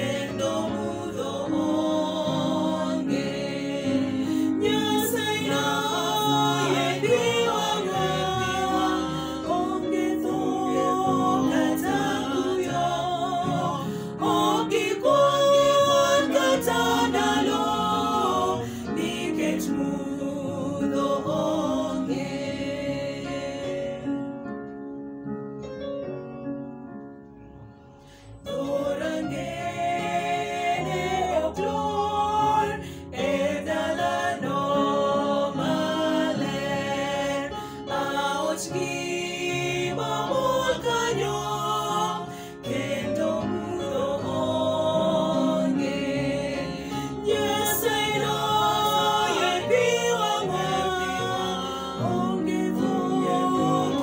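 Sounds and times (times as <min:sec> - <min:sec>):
small group singing a hymn: 0:00.0 - 0:24.8, 0:28.1 - 0:54.0.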